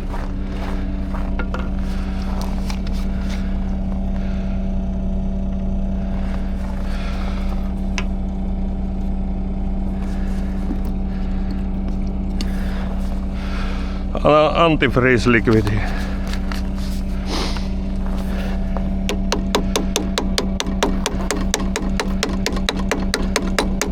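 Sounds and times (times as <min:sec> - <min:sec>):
diesel engine humming: 0:00.0 - 0:23.9.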